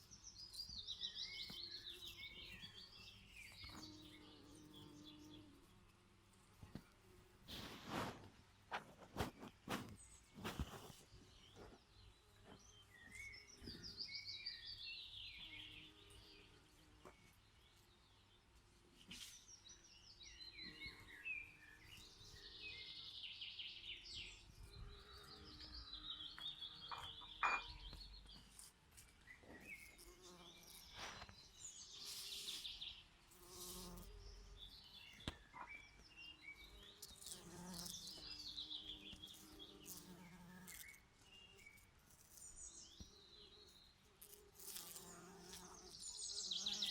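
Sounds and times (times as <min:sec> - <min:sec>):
songbirds singing trilled song: 0:00.0 - 0:05.7, 0:08.8 - 0:46.9.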